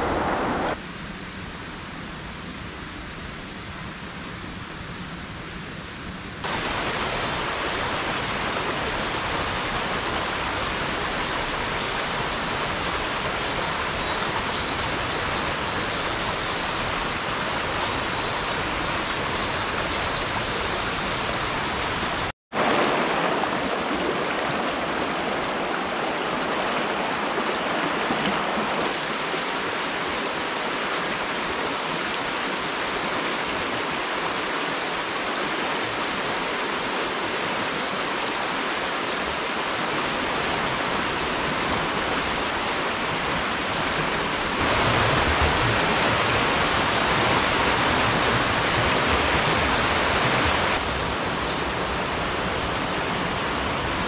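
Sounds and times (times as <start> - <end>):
water rushing over rocks: 0.0 - 0.8, 6.4 - 54.0.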